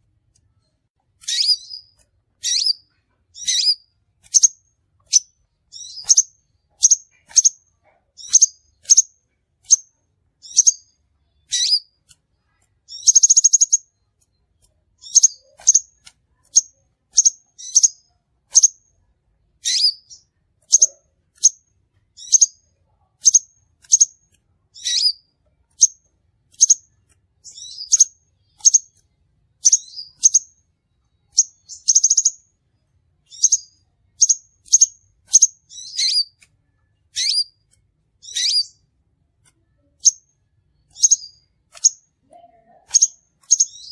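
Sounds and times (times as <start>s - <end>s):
buzzy bird trill: 1.2s - 12.0s, 12.9s - 14.4s, 15.0s - 18.9s, 19.6s - 21.6s, 22.2s - 22.6s, 23.2s - 29.0s, 29.6s - 30.6s, 31.2s - 32.5s, 33.2s - 36.4s, 37.1s - 38.9s, 39.8s - 43.9s
sunbird chirps: 1.2s - 12.0s, 12.9s - 18.9s, 19.6s - 21.6s, 22.2s - 32.6s, 33.2s - 36.4s, 37.0s - 37.6s, 38.2s - 38.9s, 39.8s - 43.9s.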